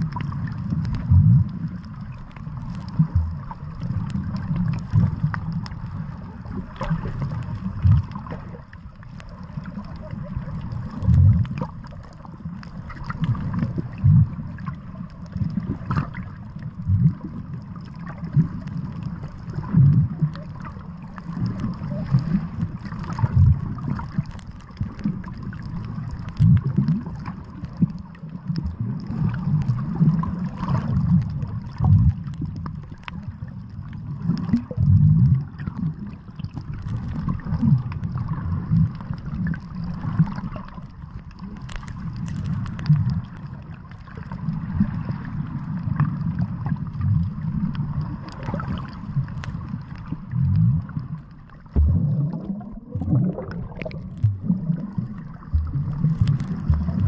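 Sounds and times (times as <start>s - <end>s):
faint clicks: 0.0s - 46.9s, 47.5s - 57.0s
deep underwater rumble: 0.0s - 57.0s
water sloshing and gurgling: 0.0s - 57.0s.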